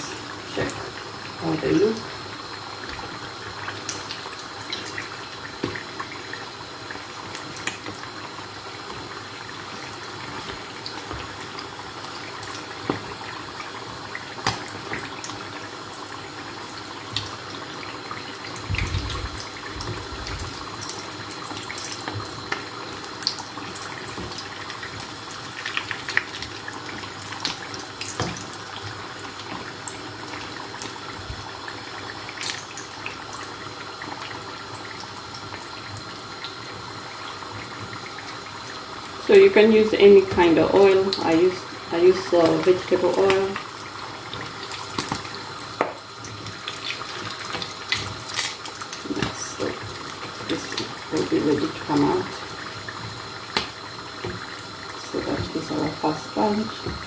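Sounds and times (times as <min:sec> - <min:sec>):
oil sizzling with crackles: 0:00.0 - 0:57.0.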